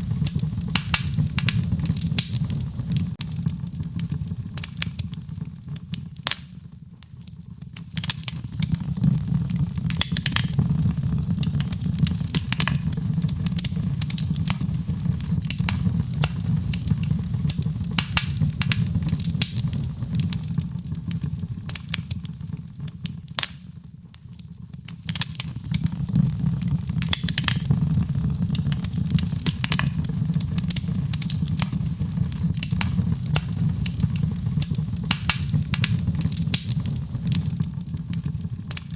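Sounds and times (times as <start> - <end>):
low rumble of burning: 0.0 - 38.9
wood fire crackling and popping: 0.0 - 38.9.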